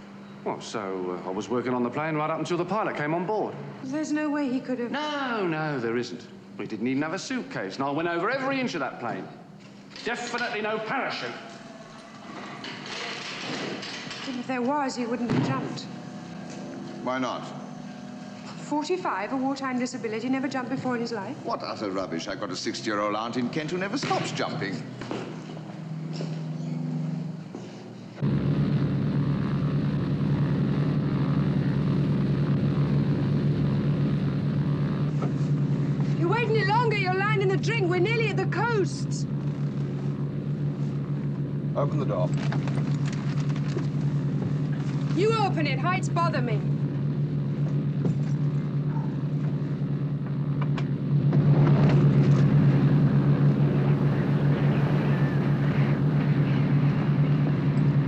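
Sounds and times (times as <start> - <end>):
propeller airliner engines droning: 0.0 - 58.0.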